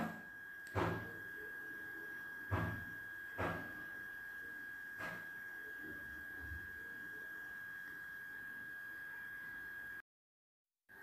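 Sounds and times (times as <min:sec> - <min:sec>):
high-pitched whine: 0:00.0 - 0:10.0.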